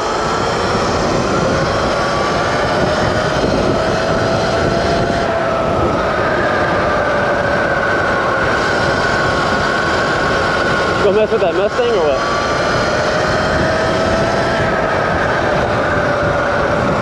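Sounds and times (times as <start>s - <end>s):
electric motor whining: 0.0s - 17.0s
wind rush on microphone: 0.0s - 17.0s.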